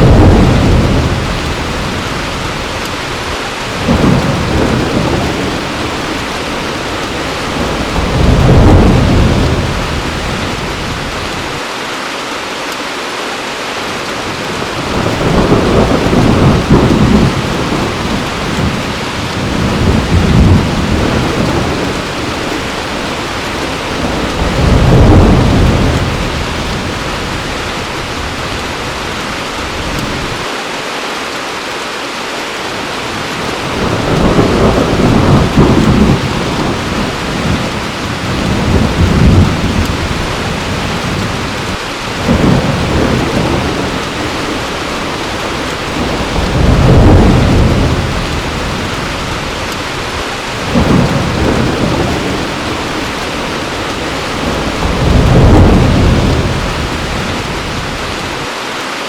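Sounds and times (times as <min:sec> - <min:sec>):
thunder rolling: 0:00.0 - 0:11.6, 0:14.5 - 0:30.4, 0:33.1 - 0:58.5
heavy rain: 0:00.0 - 0:59.0.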